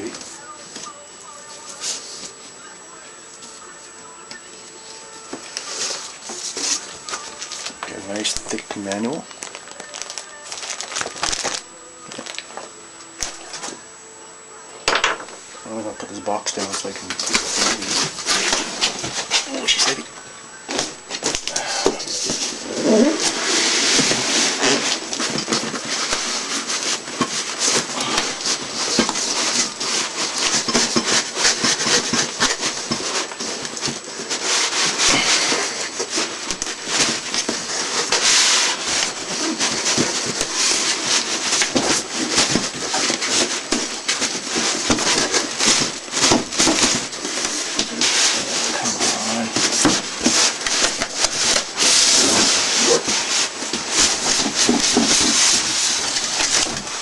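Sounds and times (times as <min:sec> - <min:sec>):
cardboard and styrofoam rustling: 0:00.0 - 0:02.6, 0:04.8 - 0:12.6, 0:16.1 - 0:20.1, 0:20.7 - 0:57.0.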